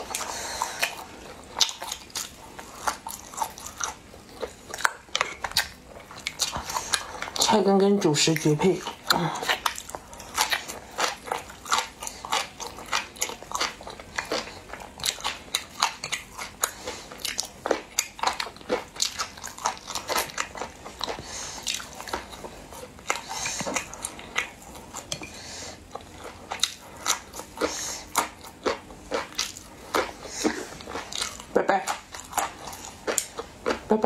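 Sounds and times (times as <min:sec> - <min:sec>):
person chewing wetly: 0:00.0 - 0:34.0.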